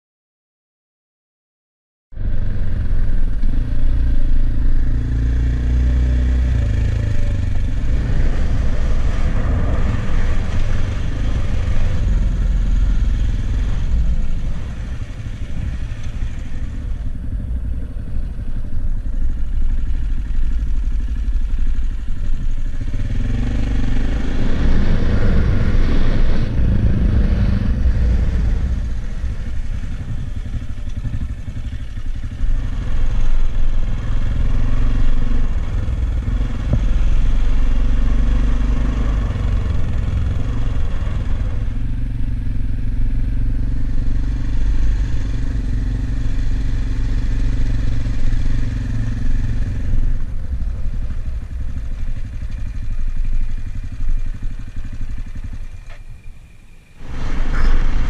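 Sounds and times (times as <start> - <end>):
motorcycle engine running: 2.1 - 58.0
wind and road noise: 2.1 - 58.0.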